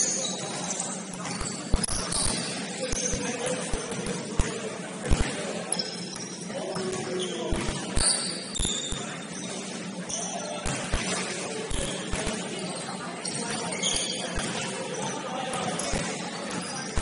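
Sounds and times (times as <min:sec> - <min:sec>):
sneakers squeaking on floor: 0:00.0 - 0:17.0.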